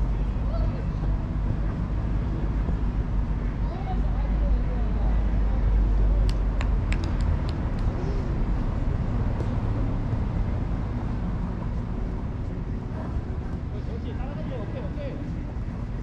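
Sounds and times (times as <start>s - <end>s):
distant players' voices: 0.0s - 16.0s
low outdoor rumble: 0.0s - 16.0s.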